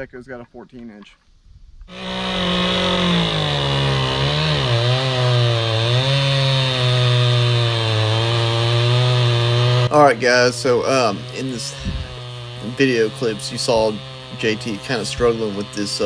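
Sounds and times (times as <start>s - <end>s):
chainsaw cutting tree trunk: 1.9s - 16.0s.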